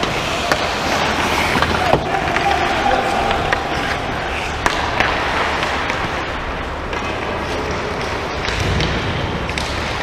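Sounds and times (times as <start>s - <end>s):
hockey stick clacks: 0.0s - 10.0s
skates scraping ice: 0.0s - 10.0s.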